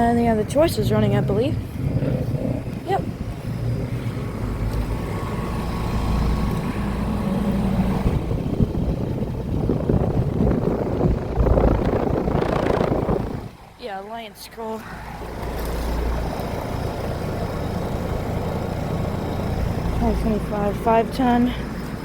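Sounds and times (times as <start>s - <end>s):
compressor low hum: 0.0s - 22.0s
condenser fan air rush: 0.0s - 22.0s.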